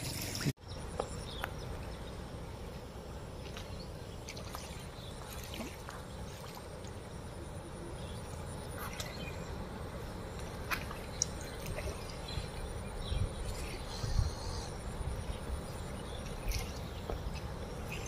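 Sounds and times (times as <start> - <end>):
insect chirps: 0.7 - 18.0
wind and moving floodwater rumble: 1.2 - 18.0.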